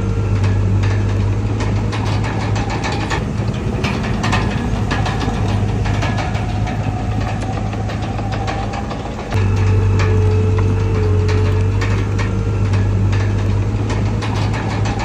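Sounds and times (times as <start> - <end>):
bulldozer diesel engine running: 0.0 - 15.0
sharp metallic knocks: 0.0 - 15.0.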